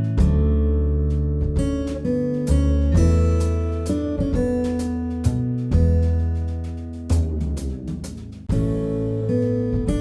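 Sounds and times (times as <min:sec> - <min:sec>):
strummed acoustic guitar: 0:00.0 - 0:07.5, 0:08.5 - 0:10.0
low bass line: 0:00.0 - 0:10.0.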